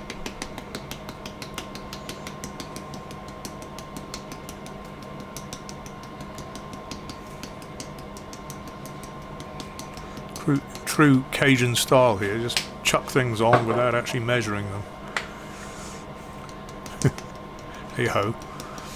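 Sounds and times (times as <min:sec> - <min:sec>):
spices ticking on meat: 0:00.0 - 0:18.9
steady hum: 0:00.0 - 0:18.9.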